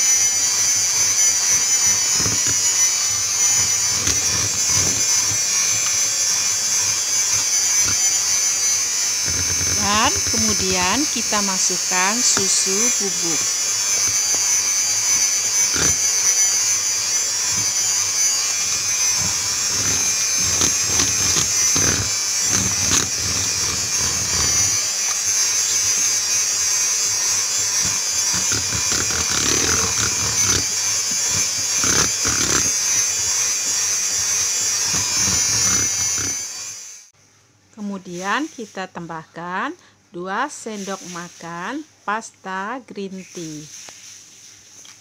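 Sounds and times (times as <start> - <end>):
electric hand mixer running: 0.0 - 37.1.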